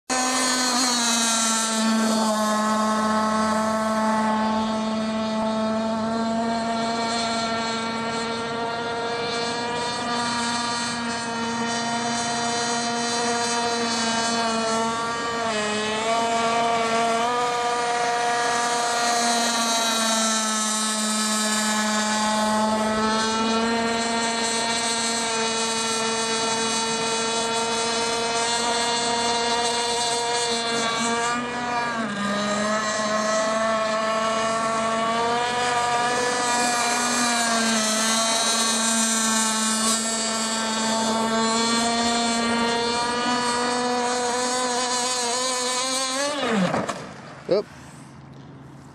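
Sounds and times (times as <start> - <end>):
two-stroke boat engine running: 0.1 - 48.9.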